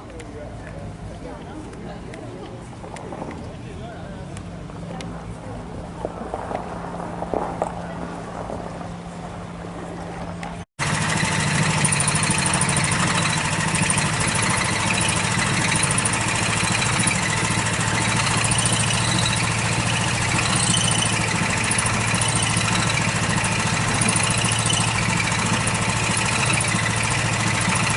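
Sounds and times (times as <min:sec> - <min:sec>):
locomotive engine idling: 0:00.0 - 0:27.9.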